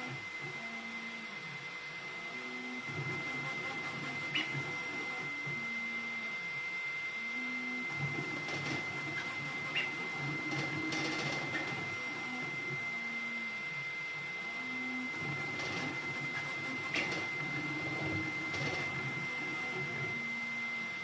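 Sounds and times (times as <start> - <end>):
printer motors changing pitch: 0.0 - 21.0.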